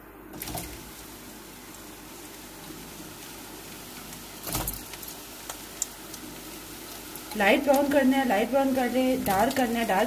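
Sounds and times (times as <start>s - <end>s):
deep-frying sizzle: 0.4s - 10.0s.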